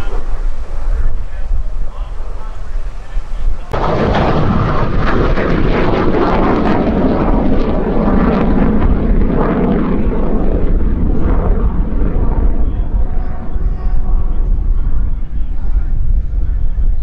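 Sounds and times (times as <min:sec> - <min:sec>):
jet flying overhead: 0:00.0 - 0:17.0.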